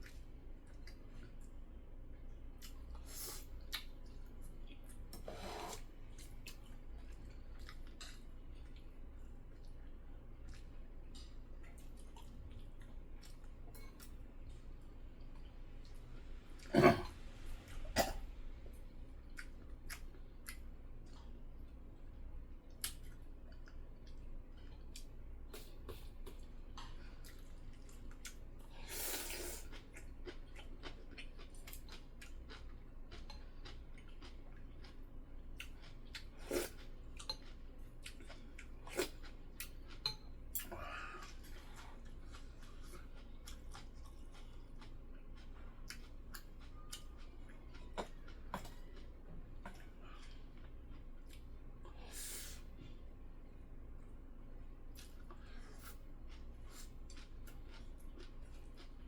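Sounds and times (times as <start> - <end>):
person chewing: 0.0 - 1.6, 2.2 - 17.1, 17.7 - 53.2, 54.8 - 59.0.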